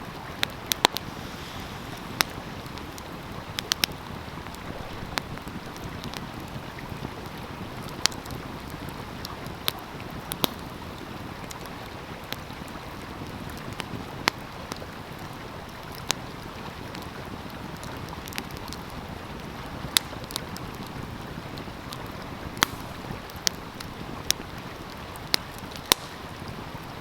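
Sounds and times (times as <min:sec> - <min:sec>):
stream flowing: 0:00.0 - 0:27.0
wood fire crackling and popping: 0:00.0 - 0:27.0.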